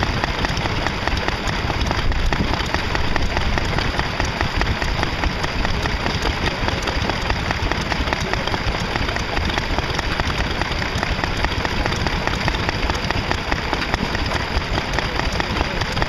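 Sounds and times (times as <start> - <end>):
stationary engine running: 0.0 - 16.0.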